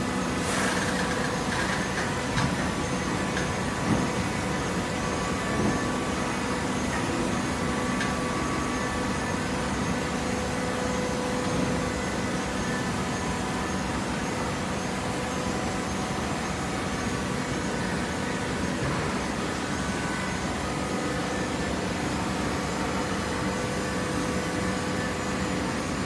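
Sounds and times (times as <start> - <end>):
hydraulic baler humming: 0.0 - 26.0.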